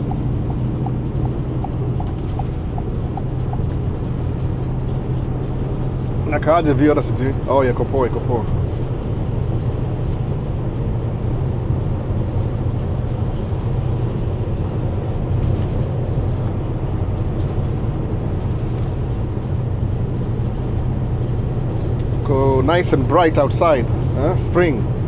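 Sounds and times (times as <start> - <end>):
road and engine noise in car: 0.0 - 25.0.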